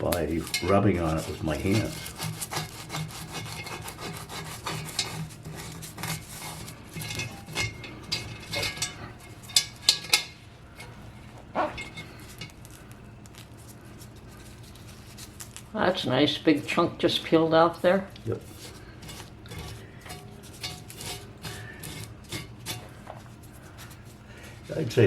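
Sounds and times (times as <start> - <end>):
hands scraping paint off metal: 0.0 - 15.6, 18.3 - 24.8.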